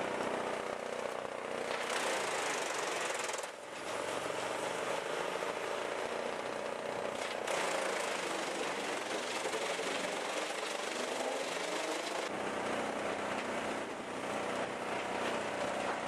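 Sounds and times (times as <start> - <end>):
machine motor rattling: 0.1 - 3.6, 5.8 - 16.0.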